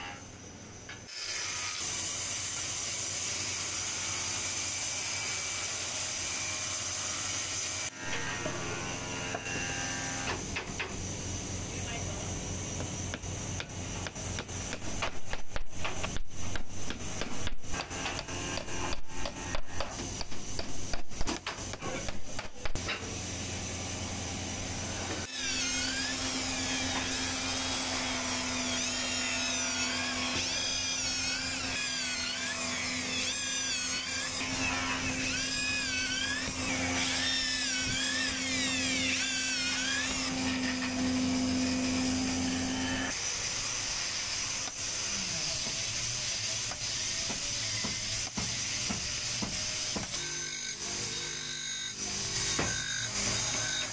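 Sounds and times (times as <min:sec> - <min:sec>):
electric drill boring wood: 0:01.1 - 0:14.8, 0:17.4 - 0:20.6, 0:23.0 - 0:53.9.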